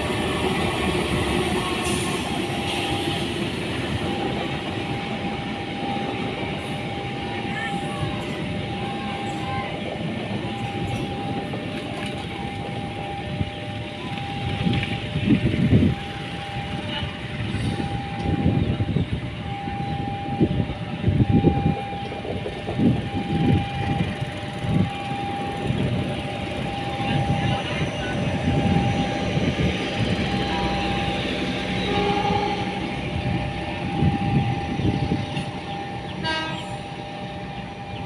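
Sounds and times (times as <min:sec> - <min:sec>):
train rumbling past: 0:00.0 - 0:38.0.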